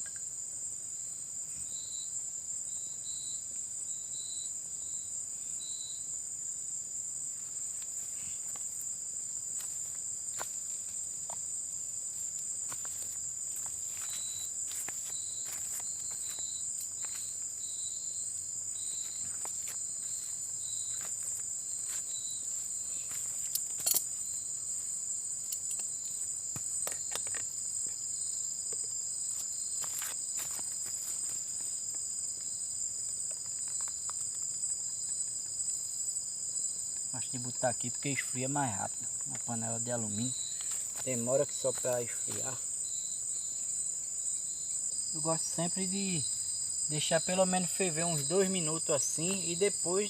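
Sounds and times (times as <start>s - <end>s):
insect chirping in short pulses: 0.0s - 50.0s
insects trilling high-pitched: 0.0s - 50.0s.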